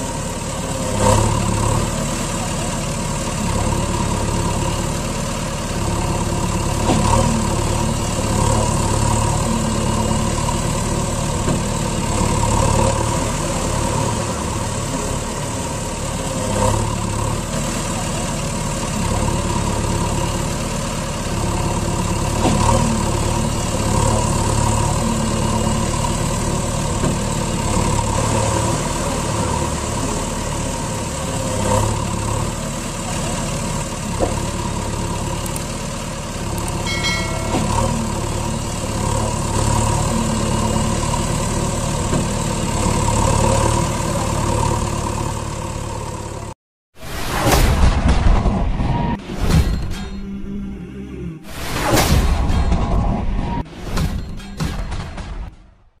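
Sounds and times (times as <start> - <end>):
engine running: 0.0 - 46.6.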